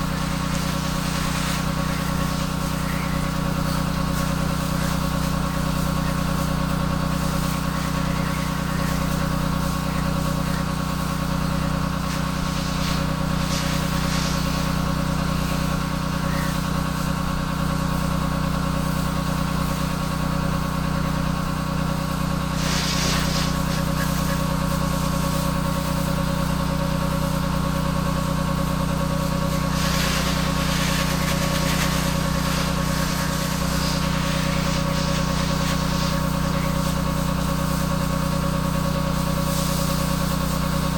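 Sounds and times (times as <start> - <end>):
water spray hissing: 0.0 - 27.6, 28.3 - 40.9
pressure washer engine running: 0.0 - 40.9.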